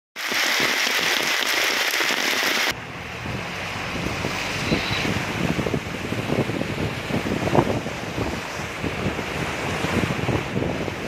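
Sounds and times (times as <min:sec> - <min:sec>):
floodwater churning against vehicle: 0:00.2 - 0:11.0
heavy rain pouring: 0:00.2 - 0:11.0
wind on microphone: 0:00.2 - 0:11.0.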